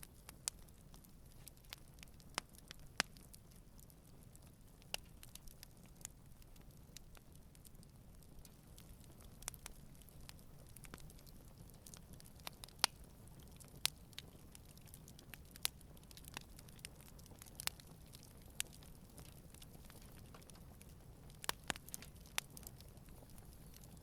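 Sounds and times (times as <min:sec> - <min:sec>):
campfire crackling: 0:00.0 - 0:24.0
low rumble of flames: 0:00.0 - 0:24.0.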